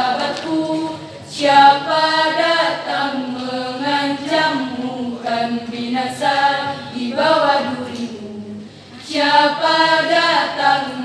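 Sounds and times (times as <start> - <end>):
women's choir singing a cappella: 0.0 - 11.0.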